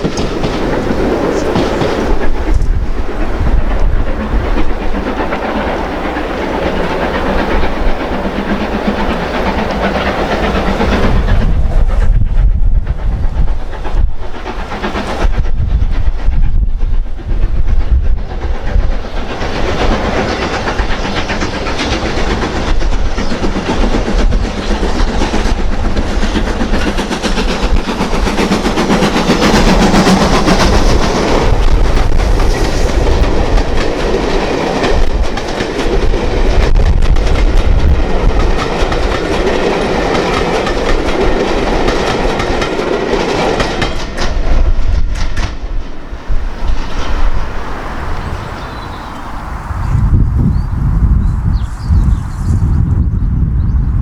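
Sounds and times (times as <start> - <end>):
wheels clattering over rail joints: 0.0 - 12.2, 18.0 - 49.6
steam train passing: 0.0 - 54.0.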